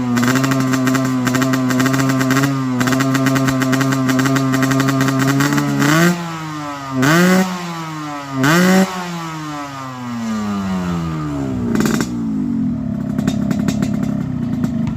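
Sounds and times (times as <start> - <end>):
two-stroke motorcycle revving: 0.0 - 14.9.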